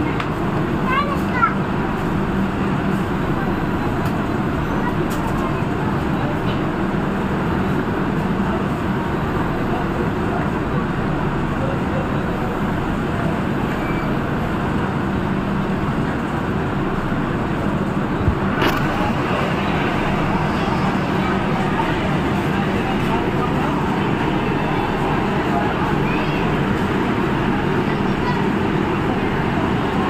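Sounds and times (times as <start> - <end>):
people talking: 0.0 - 16.4, 17.5 - 30.0
train humming and rumbling: 0.0 - 30.0.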